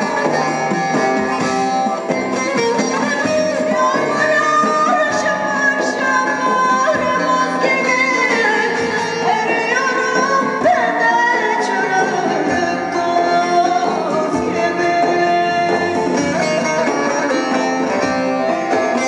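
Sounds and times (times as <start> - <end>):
long-necked lute: 0.0 - 19.0.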